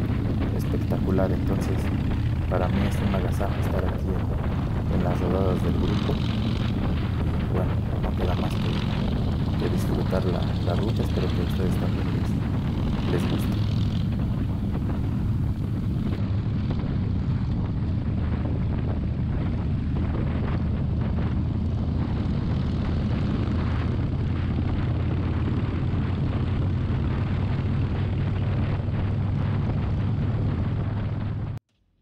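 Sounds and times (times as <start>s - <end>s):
motorcycle engine drone: 0.0s - 31.6s
wind rush on microphone: 0.0s - 31.6s.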